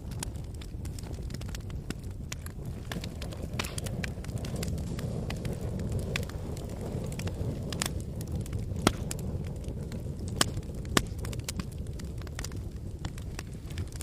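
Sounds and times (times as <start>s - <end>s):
fire crackling and popping: 0.0s - 14.0s
low rumble: 0.0s - 14.0s.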